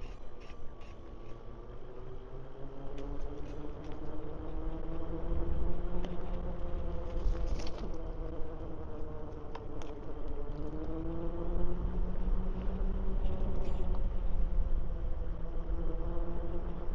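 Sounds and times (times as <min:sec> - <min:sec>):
electric bike motor whining: 0:00.0 - 0:16.9
rumble of tyres: 0:00.0 - 0:16.9
wind: 0:00.0 - 0:16.9.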